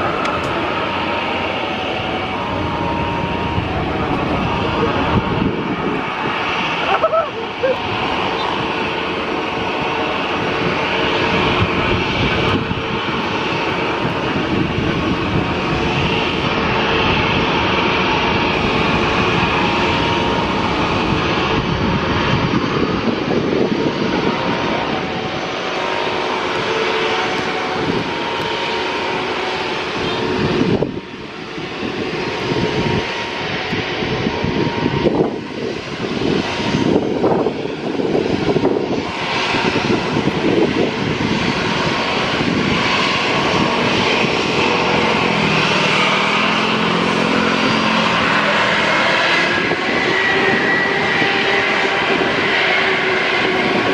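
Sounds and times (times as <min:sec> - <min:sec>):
jet engines at taxi power: 0:00.0 - 0:53.9.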